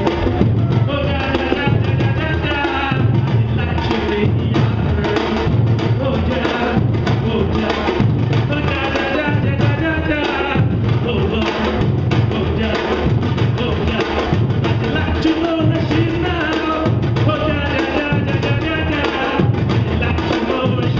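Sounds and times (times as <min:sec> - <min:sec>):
bass drums pounding: 0:00.0 - 0:20.9
drum ensemble playing: 0:00.0 - 0:20.9
man singing through microphone: 0:00.0 - 0:20.9.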